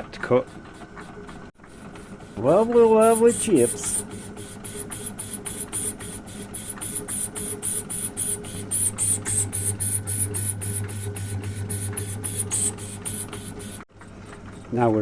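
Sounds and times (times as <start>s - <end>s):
cutting tool hissing scrape: 1.6s - 13.8s
lathe motor hum: 1.6s - 13.9s.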